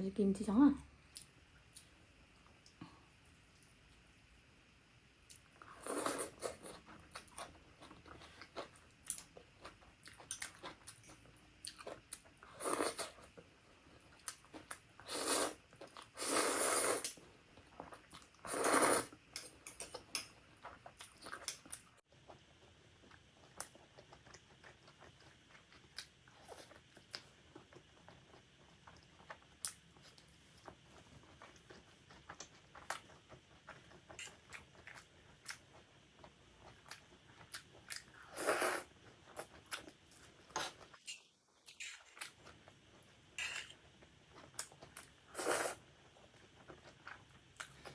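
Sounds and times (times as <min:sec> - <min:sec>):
chewing and crunching food: 0:05.3 - 0:16.4, 0:17.0 - 0:47.9.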